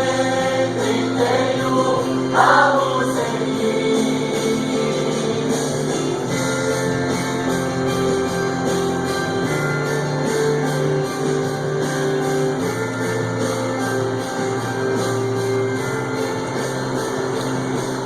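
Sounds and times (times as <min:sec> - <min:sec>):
strummed guitar worship music: 0:00.0 - 0:18.0.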